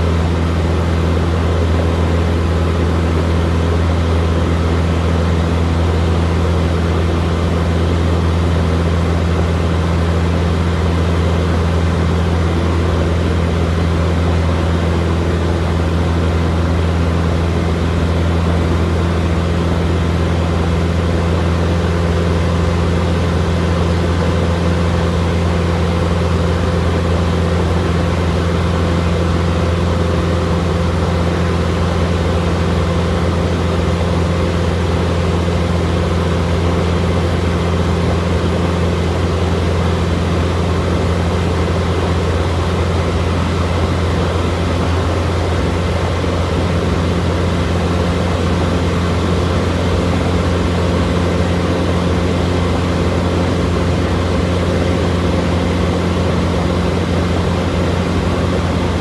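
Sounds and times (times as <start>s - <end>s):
aircraft engine and propeller droning: 0.0s - 59.0s.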